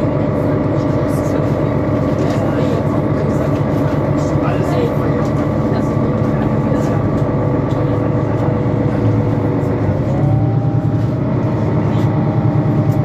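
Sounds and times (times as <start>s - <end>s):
bus engine drone: 0.0s - 13.0s
rising engine whine: 0.0s - 13.0s.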